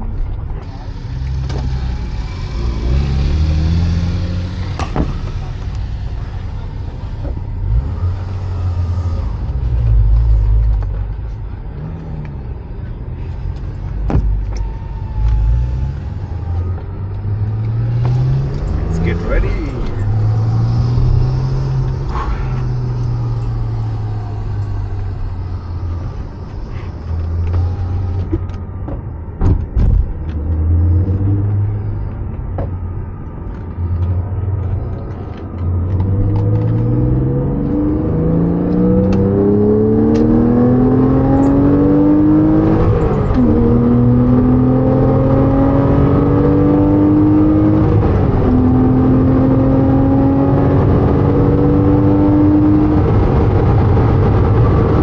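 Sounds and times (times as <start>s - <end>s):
car engine revving: 0.0s - 55.0s
gear upshifts: 0.0s - 55.0s.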